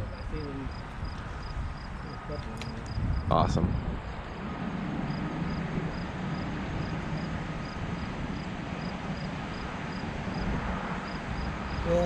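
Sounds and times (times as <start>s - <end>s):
insect chirping: 0.0s - 4.5s, 5.1s - 12.0s
low outdoor hum: 0.0s - 12.0s.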